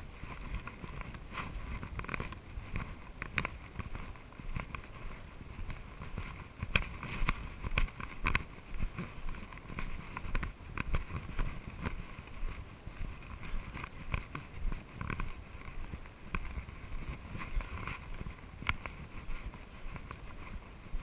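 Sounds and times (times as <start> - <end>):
footsteps on dry leaves: 0.0 - 21.0.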